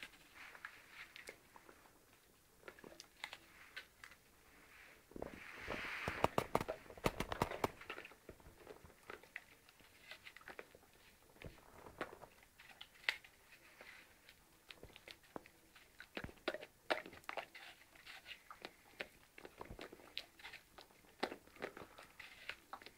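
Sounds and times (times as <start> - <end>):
dog crunching apple: 2.6 - 4.2, 6.1 - 22.9.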